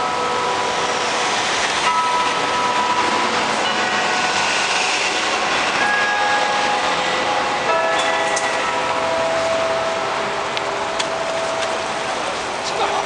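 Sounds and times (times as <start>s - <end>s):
chime bells ringing: 0.0s - 13.0s
city traffic noise: 0.0s - 13.0s.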